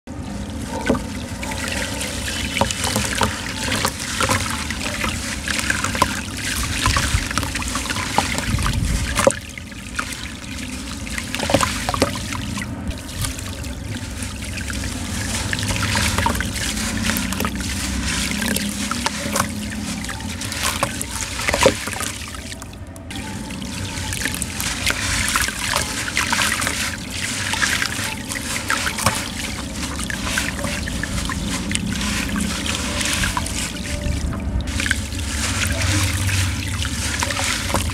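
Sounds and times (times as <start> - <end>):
wet sand pouring into water: 0.1 - 37.9.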